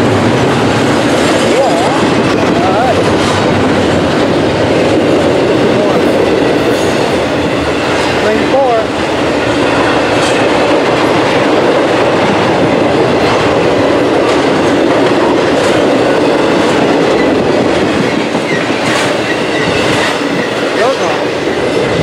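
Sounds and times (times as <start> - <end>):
train wheels rumbling on rail: 0.0 - 22.0
wheels clicking over track: 0.0 - 22.0.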